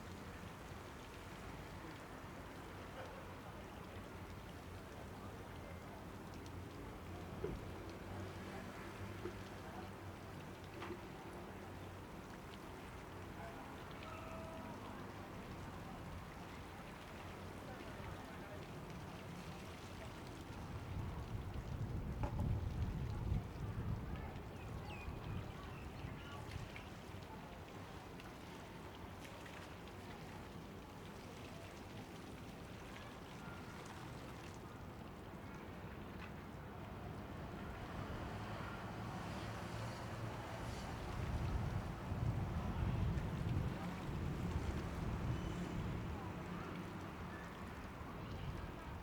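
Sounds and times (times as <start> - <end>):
light ticks and drips: 0.0 - 49.0.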